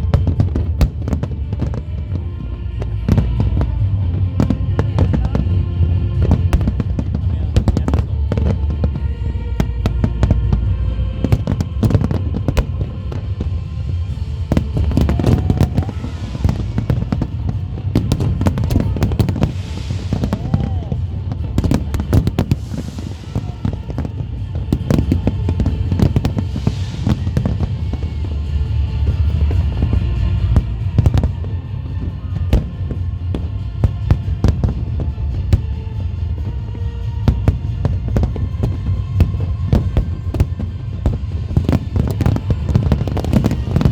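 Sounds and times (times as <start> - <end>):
distant booms rumbling: 0.0 - 43.9
fireworks bangs and cracks: 0.0 - 43.9
show music: 0.0 - 43.9.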